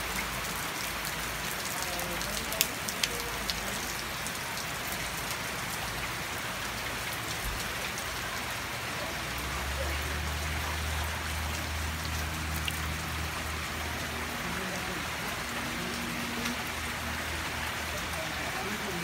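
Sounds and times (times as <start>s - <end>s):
rain on plants and paving: 0.0s - 19.0s
water pouring from downspout: 0.0s - 19.0s.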